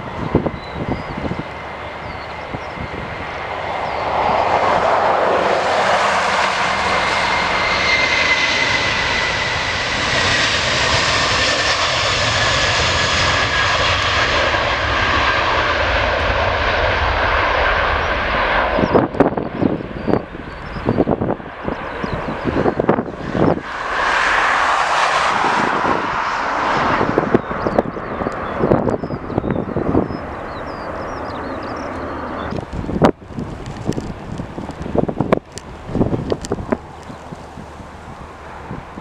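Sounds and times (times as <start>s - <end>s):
airliner engines passing: 0.0s - 39.0s
high engine whine: 0.0s - 39.0s
wind gusts on microphone: 0.0s - 39.0s.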